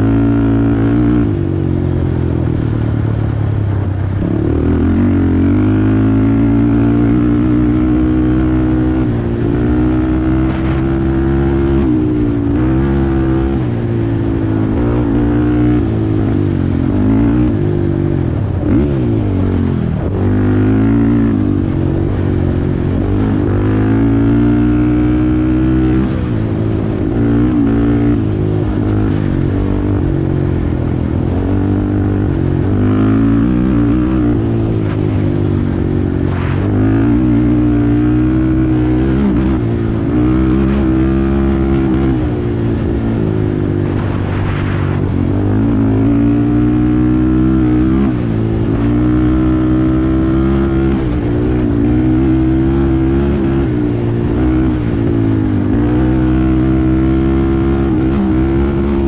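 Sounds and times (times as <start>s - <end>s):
quad engine revving: 0.0s - 1.5s, 3.7s - 30.1s, 31.1s - 59.0s.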